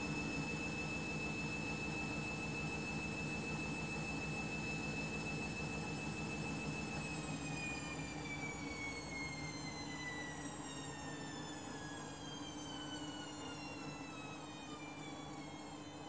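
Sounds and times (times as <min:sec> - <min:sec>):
washing machine motor whining: 0:00.0 - 0:16.0.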